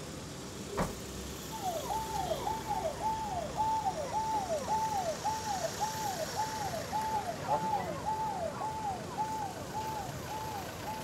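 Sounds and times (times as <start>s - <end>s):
electronic siren wailing: 1.5s - 11.0s.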